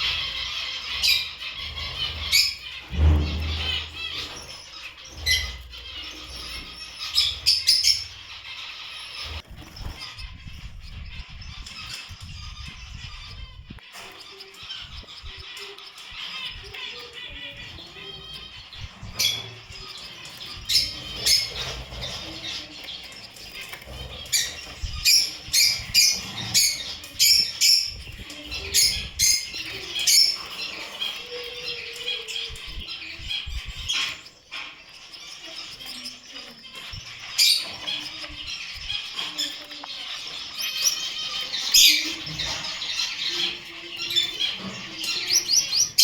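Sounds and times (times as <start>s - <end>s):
birds fluttering: 0.0s - 46.0s
finches chirping and chattering: 0.0s - 46.0s.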